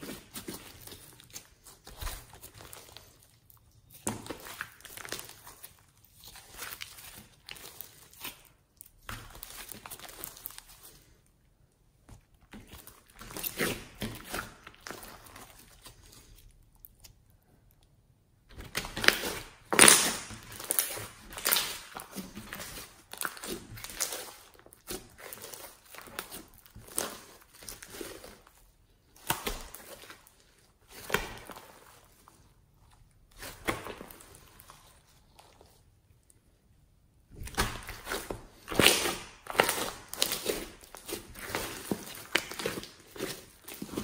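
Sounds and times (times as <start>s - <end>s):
slime squelching: 0.0s - 44.0s.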